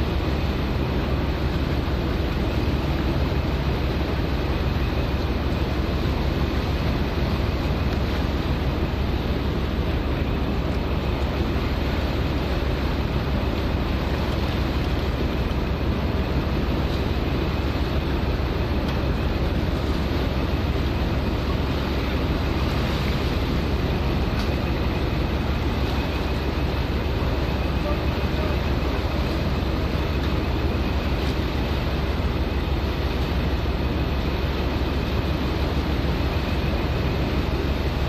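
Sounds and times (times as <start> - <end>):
sea and wind noise: 0.0 - 38.0
ship engine rumble: 0.0 - 38.0.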